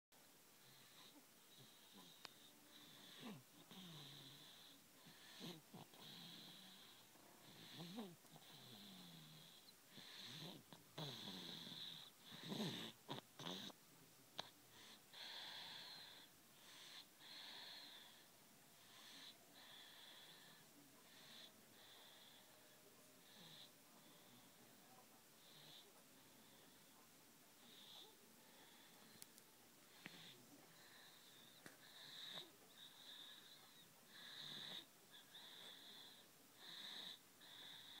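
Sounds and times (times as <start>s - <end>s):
wheezy snoring: 0.6s - 13.8s, 14.4s - 24.6s, 25.4s - 26.9s, 27.6s - 29.2s, 29.9s - 38.0s.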